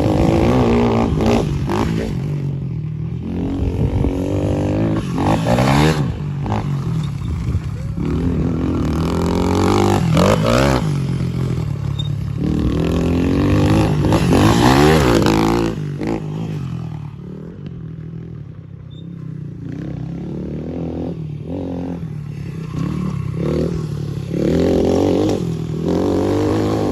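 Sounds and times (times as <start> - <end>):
dirt bike engine revving: 0.0 - 2.5, 3.1 - 18.1, 19.6 - 26.9.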